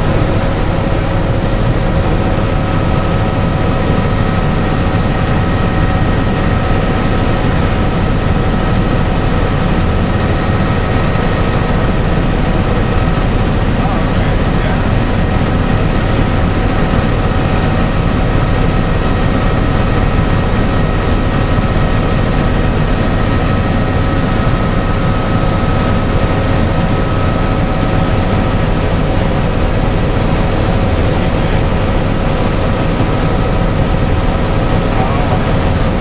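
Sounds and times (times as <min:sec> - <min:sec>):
faint whining tones: 0:00.0 - 0:36.0
helicopter engine and rotor drone: 0:00.0 - 0:36.0.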